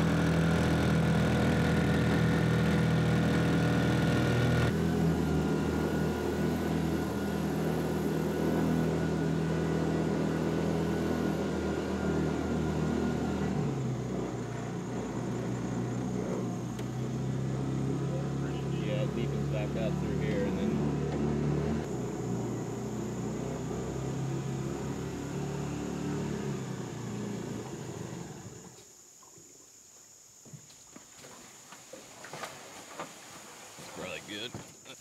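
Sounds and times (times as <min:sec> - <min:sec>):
small boat motor running: 0:00.0 - 0:28.8.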